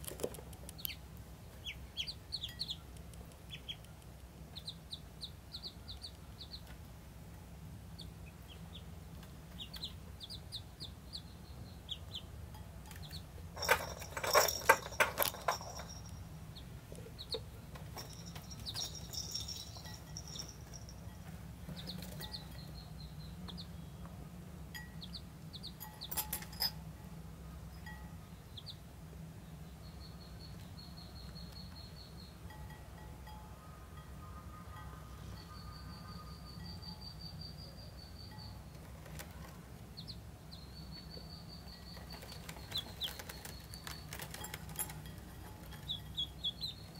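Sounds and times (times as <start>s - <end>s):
ducklings peeping: 0.0s - 7.0s, 7.7s - 13.8s, 16.5s - 20.5s, 21.2s - 24.2s, 24.9s - 26.1s, 27.6s - 32.4s, 33.6s - 46.9s.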